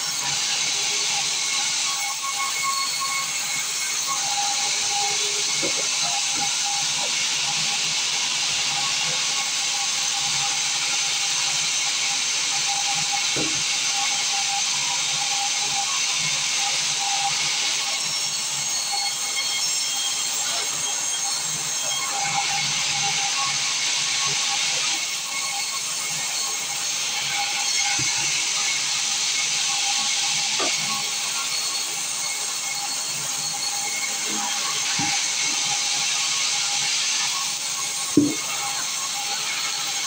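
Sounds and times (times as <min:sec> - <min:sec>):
sawmill saw hissing: 0:00.0 - 0:40.0.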